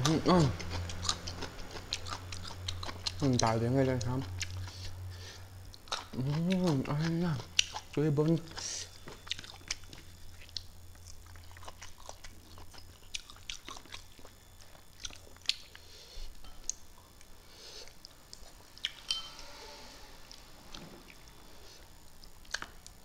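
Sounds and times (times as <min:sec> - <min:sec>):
person chewing and smacking lips: 0:00.0 - 0:05.0, 0:05.7 - 0:19.0, 0:22.2 - 0:23.0.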